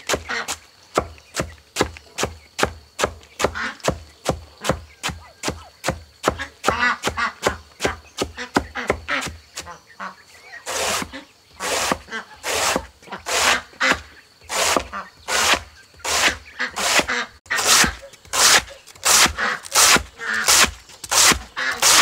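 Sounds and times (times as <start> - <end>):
machete chopping banana trunk: 0.0 - 9.7, 10.7 - 22.0.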